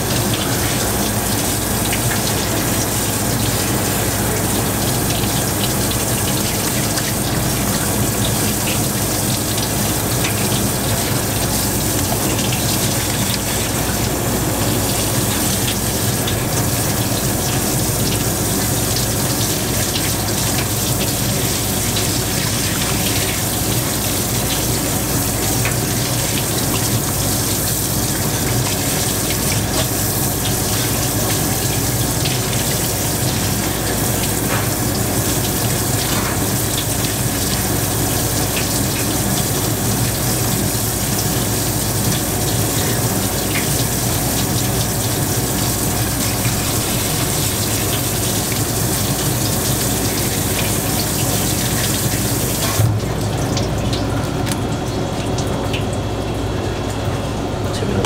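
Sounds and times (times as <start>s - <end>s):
kitchen tap running: 0.0s - 58.0s.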